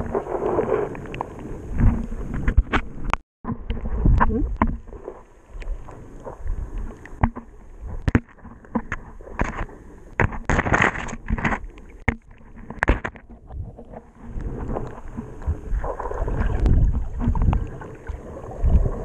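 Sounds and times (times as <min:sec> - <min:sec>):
underwater water movement: 0:00.0 - 0:19.0.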